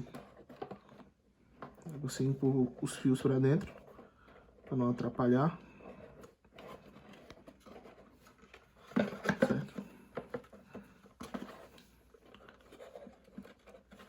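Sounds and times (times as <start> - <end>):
hands handling speaker parts: 0.0 - 14.0.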